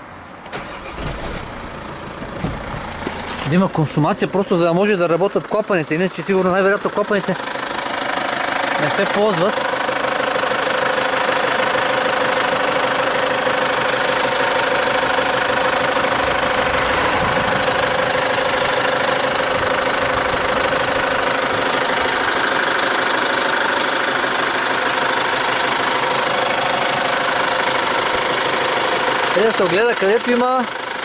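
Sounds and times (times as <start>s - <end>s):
car engine idling: 0.5s - 31.0s.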